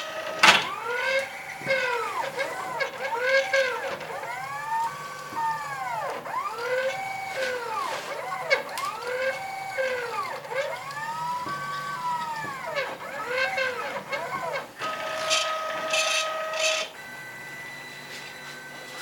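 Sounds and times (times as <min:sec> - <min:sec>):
stepper motors whining: 0:00.0 - 0:19.0.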